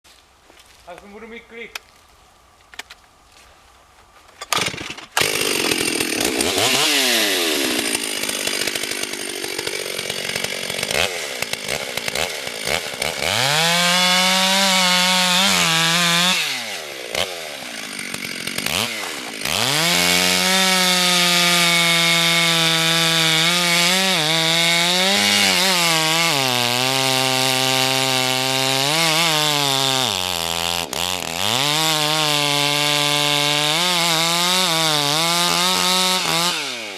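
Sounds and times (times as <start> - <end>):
chainsaw cutting wood: 4.4 - 36.9.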